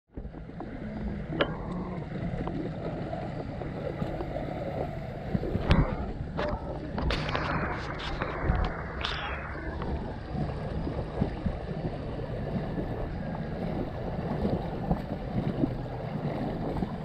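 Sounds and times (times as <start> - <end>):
water rushing and churning: 0.1 - 17.0.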